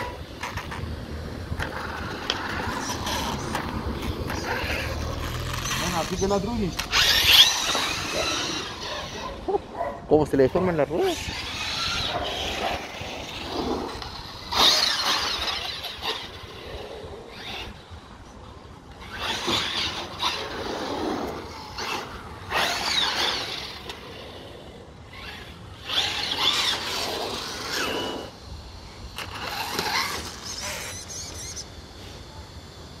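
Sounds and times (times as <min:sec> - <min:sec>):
electric motor whining: 0:00.0 - 0:09.5, 0:10.3 - 0:18.0, 0:18.9 - 0:32.0.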